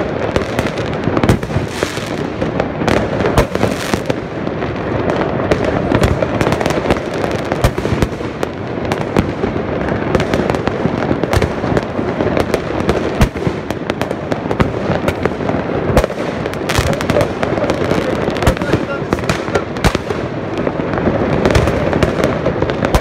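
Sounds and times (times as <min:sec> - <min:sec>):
fireworks cracks and pops: 0:00.0 - 0:23.0
fireworks rumble: 0:00.0 - 0:23.0.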